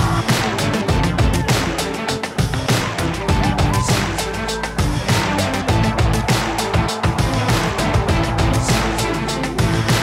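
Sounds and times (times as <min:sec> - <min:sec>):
music with heavy beat and bass: 0:00.0 - 0:10.0.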